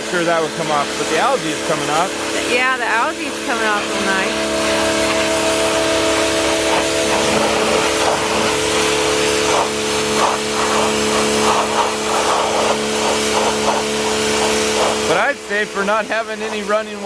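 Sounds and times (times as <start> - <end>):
pressure washer motor hum: 0.0 - 17.0
water jet hissing on stone: 0.0 - 17.0.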